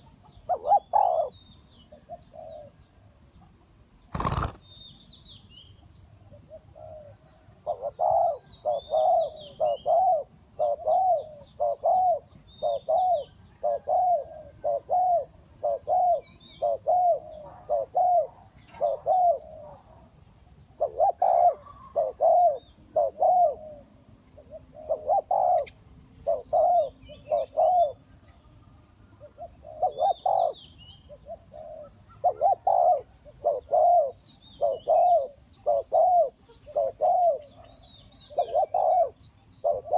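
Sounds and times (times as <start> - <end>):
doves cooing: 0.0 - 2.8, 4.1 - 4.6, 6.2 - 20.1, 20.7 - 28.1, 29.1 - 39.9
high chirps of small birds: 0.0 - 19.8, 20.5 - 39.9.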